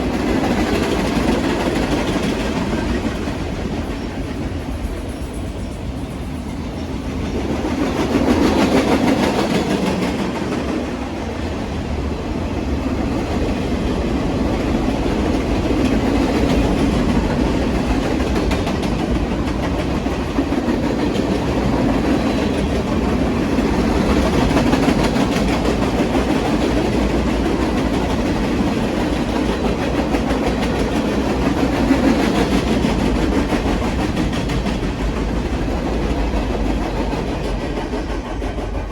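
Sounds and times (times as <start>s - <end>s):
railroad car wheels clattering: 0.0s - 38.9s.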